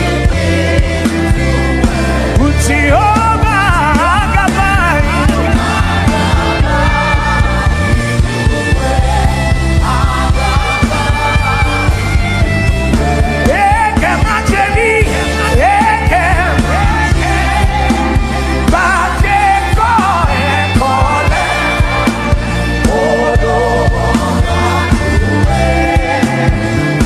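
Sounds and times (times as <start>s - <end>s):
sustained instrumental backing: 0.0s - 27.0s.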